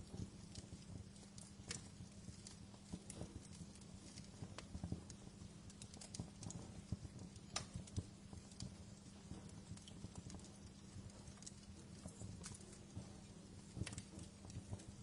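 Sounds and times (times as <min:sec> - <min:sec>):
fire popping and snapping: 0:00.0 - 0:15.0
low rumble of flames: 0:00.0 - 0:15.0
wood fire crackling: 0:00.0 - 0:15.0.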